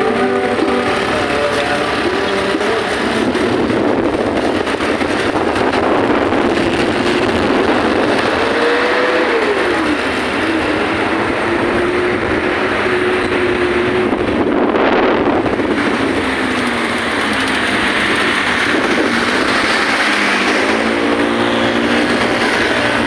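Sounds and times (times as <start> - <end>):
low engine hum: 0.0 - 23.0
road and wind noise: 0.0 - 23.0.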